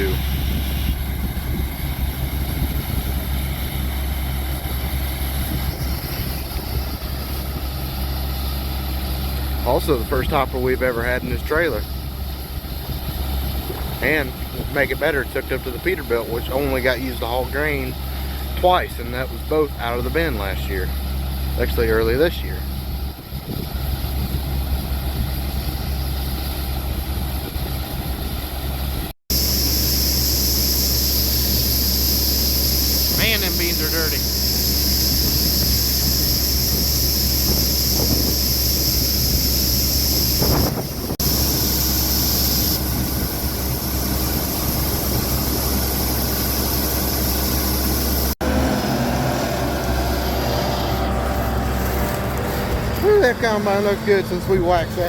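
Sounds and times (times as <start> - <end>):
diesel farm machinery running: 0.0 - 55.0.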